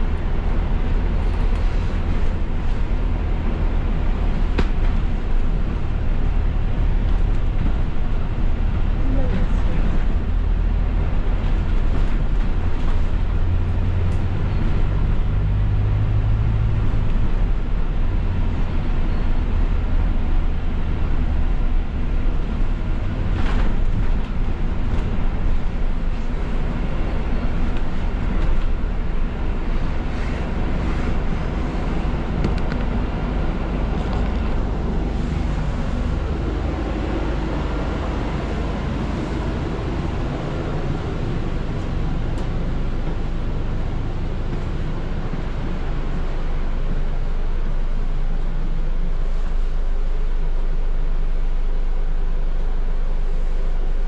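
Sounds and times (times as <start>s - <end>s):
bus engine hum: 0.0s - 54.0s
road noise: 0.0s - 54.0s.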